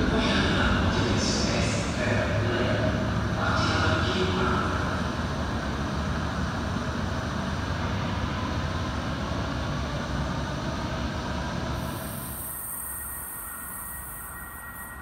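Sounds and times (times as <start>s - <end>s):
light-rail train rumbling on track: 0.0s - 15.0s.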